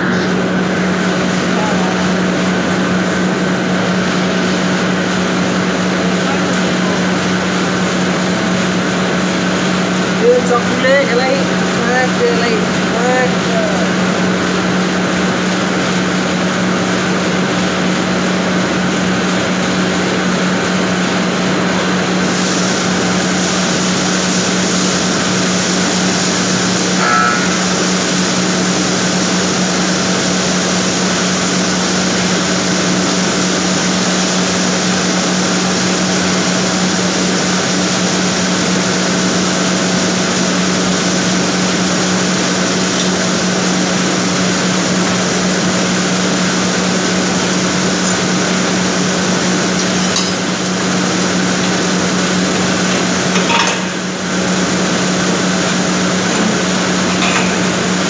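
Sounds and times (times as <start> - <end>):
factory machinery drone: 0.0 - 58.0.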